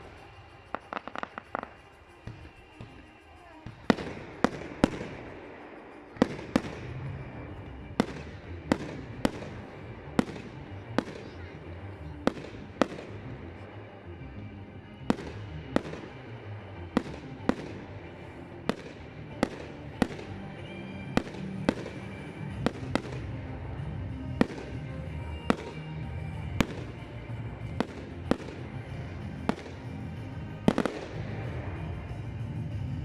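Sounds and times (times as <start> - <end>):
fireworks bangs with echo: 0.0 - 33.0.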